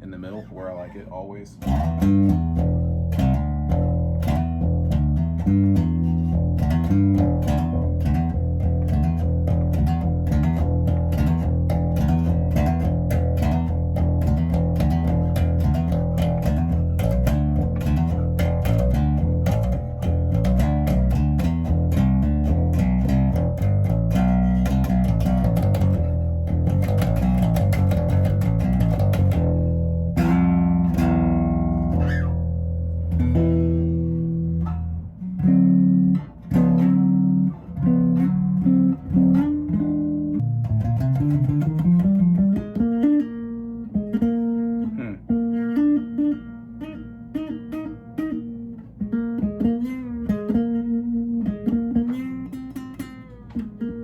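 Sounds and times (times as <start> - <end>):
electric bass playing: 0.0 - 54.0.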